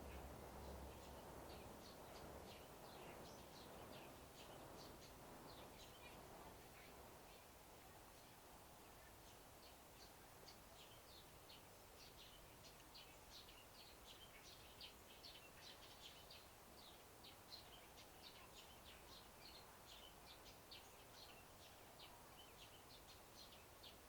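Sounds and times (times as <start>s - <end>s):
faint steady hiss: 0.0s - 24.0s
small birds chirping: 0.0s - 24.0s.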